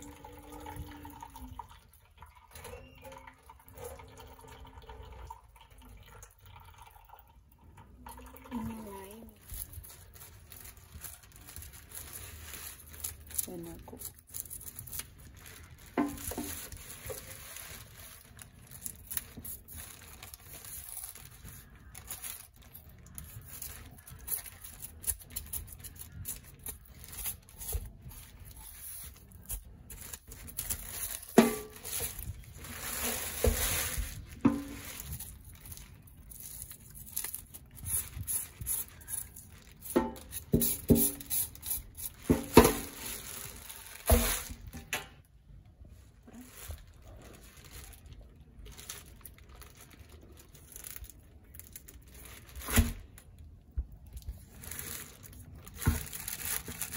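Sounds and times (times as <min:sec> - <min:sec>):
plastic bag crinkling: 0:08.4 - 0:56.9.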